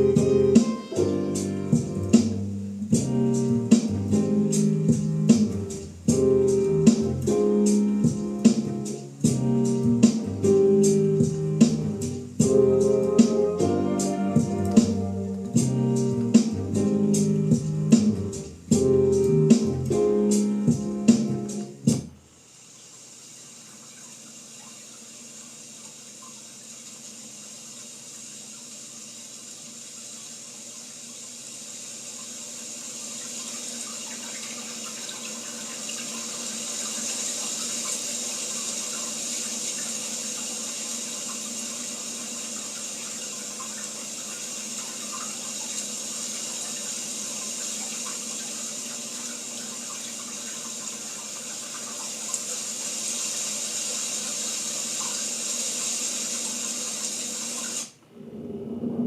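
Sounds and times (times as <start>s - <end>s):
running water through speakers: 0.0s - 59.0s.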